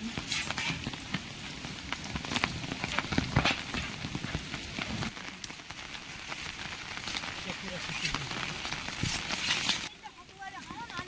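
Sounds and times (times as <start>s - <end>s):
heavy rain falling: 0.0s - 11.0s
large raindrops tapping: 0.0s - 11.0s.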